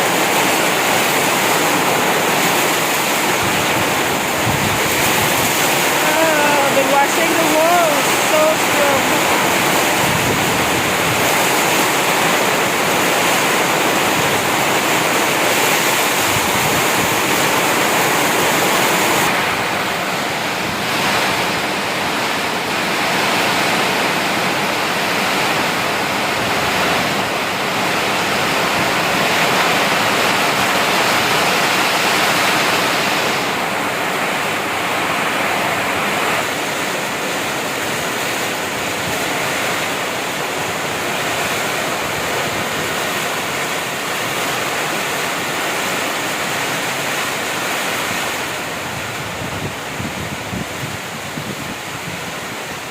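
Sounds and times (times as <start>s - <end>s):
heavy rain hissing: 0.0s - 52.9s.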